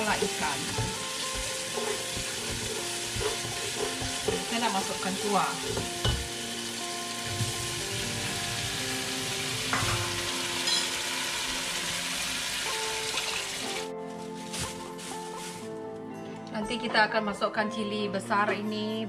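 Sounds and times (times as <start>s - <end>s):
spice paste sizzling in oil: 0.0s - 15.7s.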